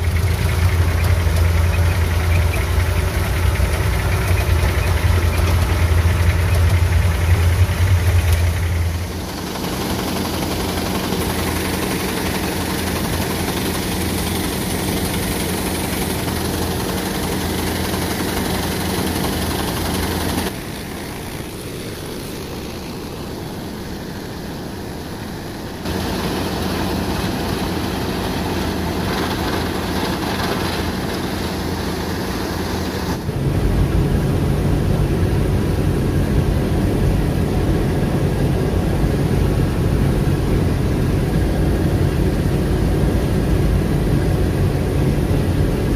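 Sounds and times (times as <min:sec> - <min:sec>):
combine harvester engine drone: 0:00.0 - 0:45.9.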